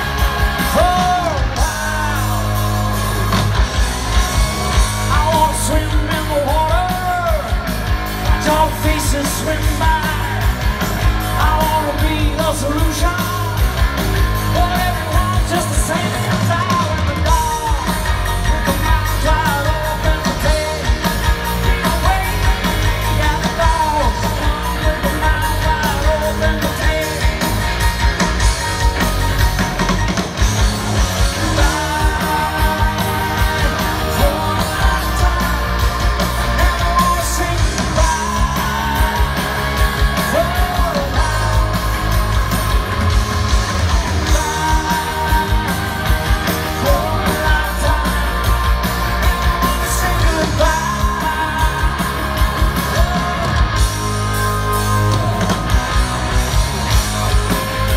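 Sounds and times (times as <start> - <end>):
person singing lead vocal: 0.0 - 3.5, 4.2 - 28.4, 30.8 - 56.6
bass guitar: 0.0 - 57.9
drums: 0.0 - 57.9
electric guitars: 0.0 - 57.9
keyboards: 0.0 - 57.9.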